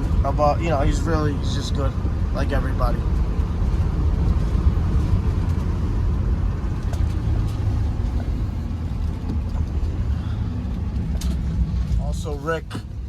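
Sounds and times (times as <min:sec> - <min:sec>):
car road rumble from inside: 0:00.0 - 0:13.0.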